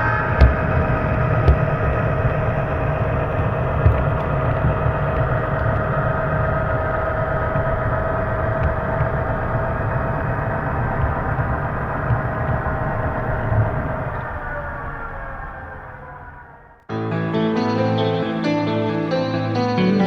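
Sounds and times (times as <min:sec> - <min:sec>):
model diesel engine sound: 0:00.0 - 0:16.7.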